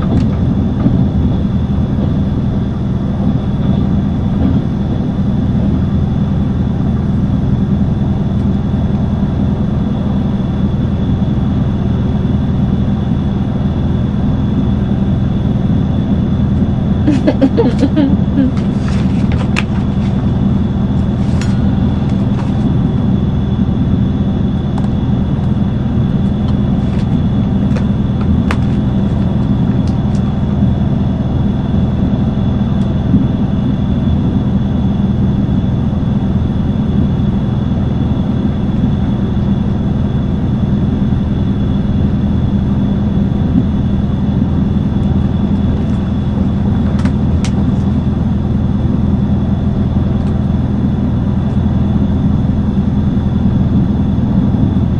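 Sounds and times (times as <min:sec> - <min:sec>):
train running rumble: 0:00.0 - 0:54.9.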